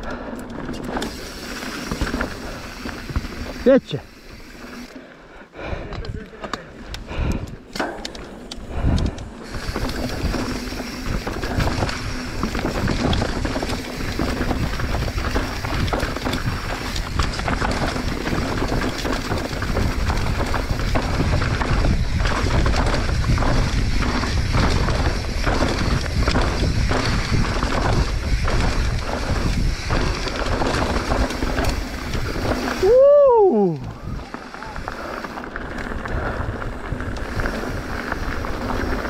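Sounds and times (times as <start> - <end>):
bike knocking and rattling: 0.0 - 5.0, 5.6 - 39.0
bike tyres on dirt: 0.0 - 39.0
wind over microphone: 6.9 - 39.0.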